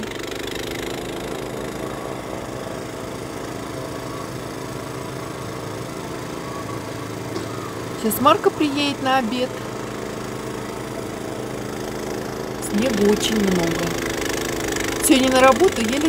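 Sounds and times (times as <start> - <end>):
snowblower engine running: 0.0 - 16.0.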